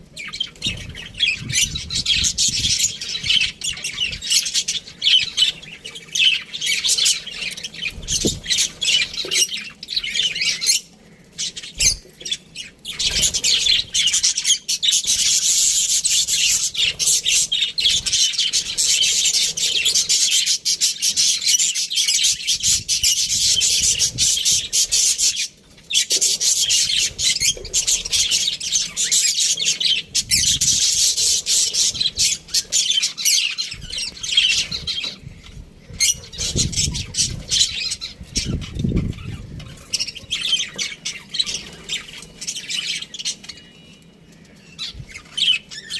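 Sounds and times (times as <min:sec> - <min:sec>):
budgerigars chirping and chattering: 0:00.1 - 0:45.9.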